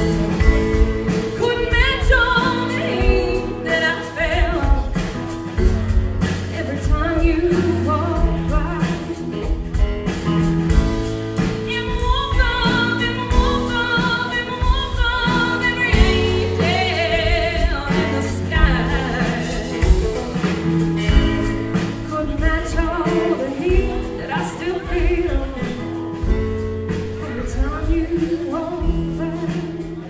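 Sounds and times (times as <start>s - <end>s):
country band playing live: 0.0s - 30.0s
steady drum beat: 0.0s - 30.0s
woman singing: 0.1s - 9.8s, 11.4s - 30.0s.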